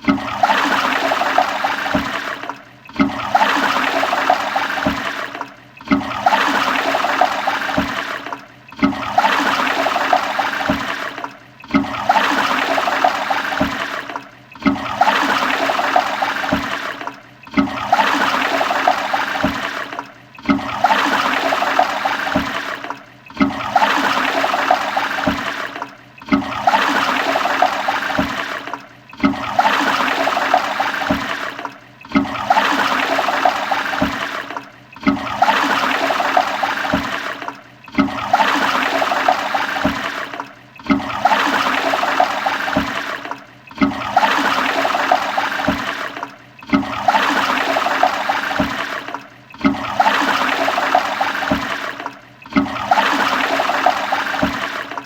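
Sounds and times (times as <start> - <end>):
toilet flushing: 0.0 - 55.0.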